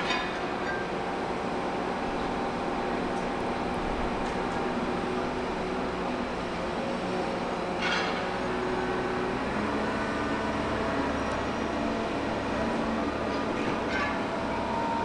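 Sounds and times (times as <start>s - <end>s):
rail vehicle engine running: 0.0s - 15.0s.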